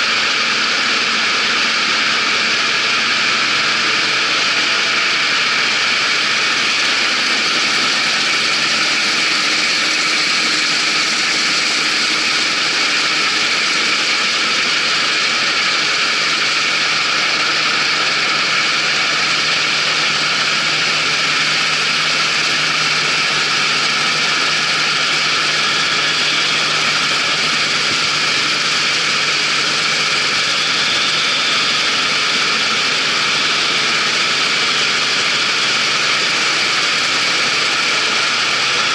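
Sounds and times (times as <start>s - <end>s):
combine harvester clattering: 0.0s - 38.9s.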